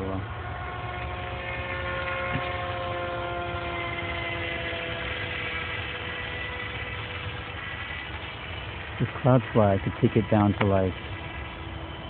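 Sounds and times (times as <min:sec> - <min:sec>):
model plane motor whine: 0:00.0 - 0:12.0.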